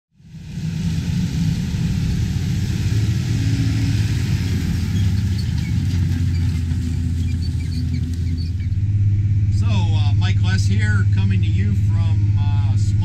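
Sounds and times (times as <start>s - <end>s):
tractor diesel engine under load: 0.1s - 13.0s.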